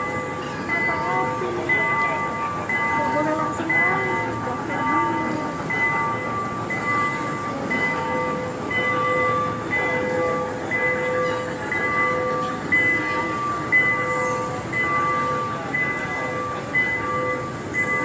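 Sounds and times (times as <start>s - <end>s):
electronic train tune: 0.0s - 18.0s.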